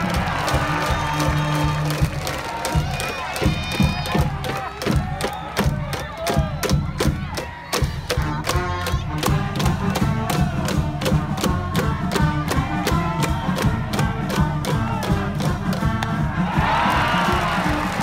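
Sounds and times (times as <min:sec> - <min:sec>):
drum beating steadily: 0:00.0 - 0:18.0.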